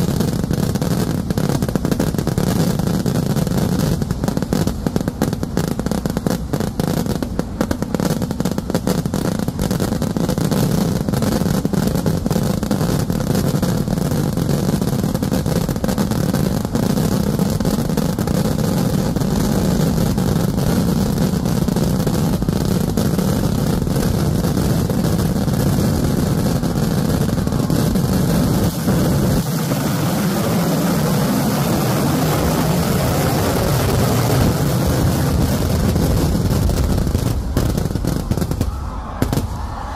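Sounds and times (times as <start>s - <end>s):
fireworks barrage: 0.0s - 39.9s.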